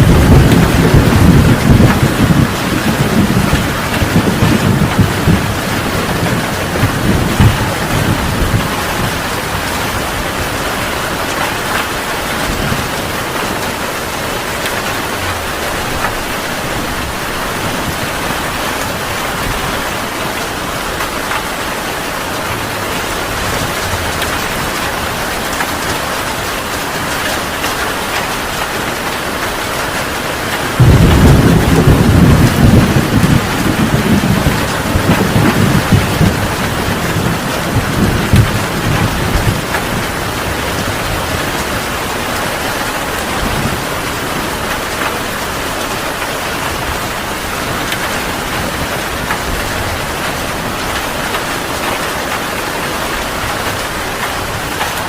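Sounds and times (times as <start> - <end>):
heavy rain: 0.0 - 55.0
thunder rumbling: 0.0 - 55.0.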